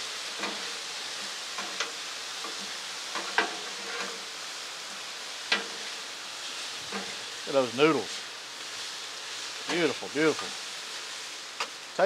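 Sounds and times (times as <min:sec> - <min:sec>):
vegetables sizzling on a griddle: 0:00.0 - 0:12.0.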